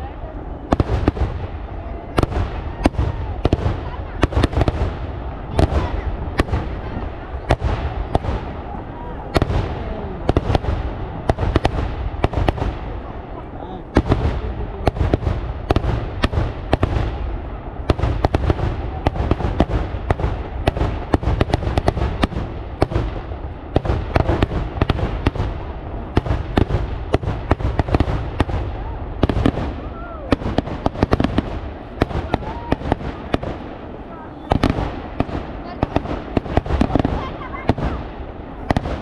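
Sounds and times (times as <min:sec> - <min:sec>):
continuous low rumble: 0:00.0 - 0:39.0
firecracker bangs: 0:00.7 - 0:13.1, 0:13.9 - 0:39.0.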